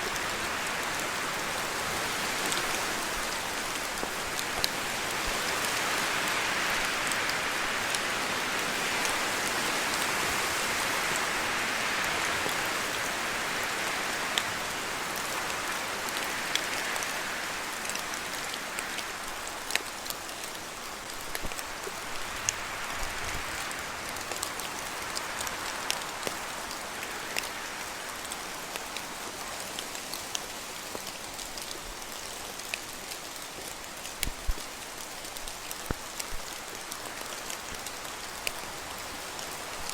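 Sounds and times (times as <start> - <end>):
rain falling in a forest: 0.0 - 39.9
wind rushing through trees: 0.0 - 39.9.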